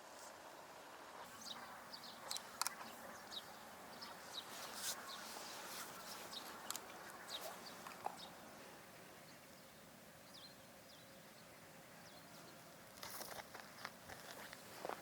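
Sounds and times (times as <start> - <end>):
small birds chirping: 1.2 - 15.0.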